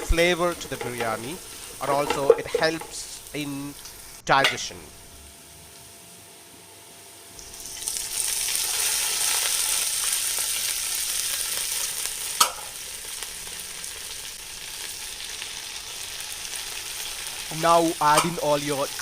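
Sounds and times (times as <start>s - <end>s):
onions sizzling in a pan: 0.0s - 19.0s.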